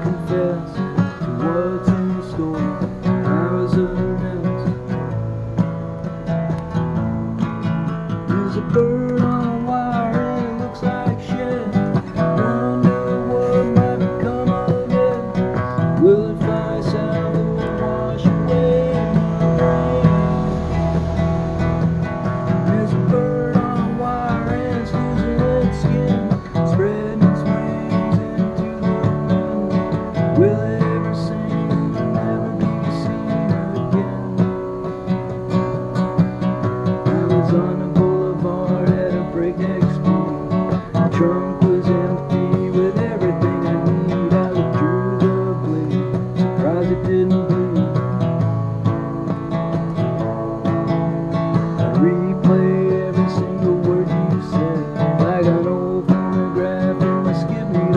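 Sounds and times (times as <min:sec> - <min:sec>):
acoustic guitar strumming: 0:00.0 - 0:57.9.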